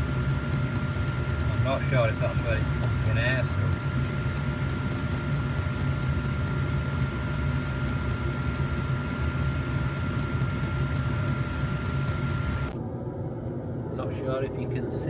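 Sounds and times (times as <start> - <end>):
fuel pump ticking: 0.0 - 12.8
diesel heater burner rumble: 0.0 - 15.0.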